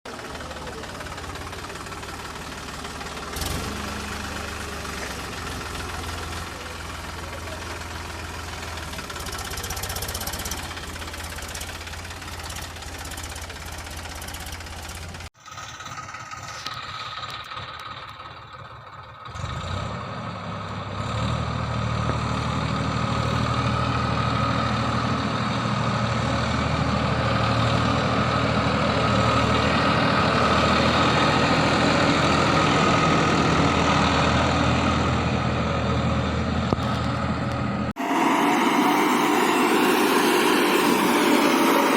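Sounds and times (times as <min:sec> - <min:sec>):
tractor engine running: 0:00.0 - 0:41.9
engine hum with high whine: 0:00.1 - 0:41.9.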